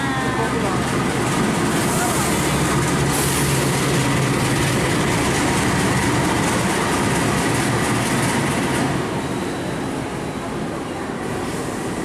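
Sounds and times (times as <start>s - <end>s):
diesel locomotive engine running: 0.0s - 12.0s
train coaches rattling past: 0.0s - 12.0s.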